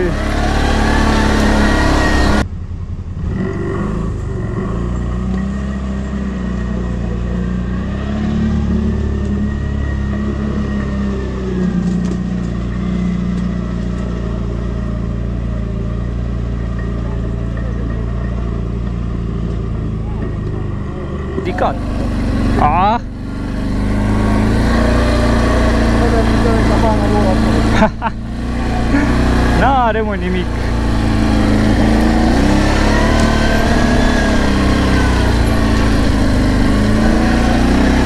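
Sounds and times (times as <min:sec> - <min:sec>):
quad bike engine running: 0:00.0 - 0:38.0.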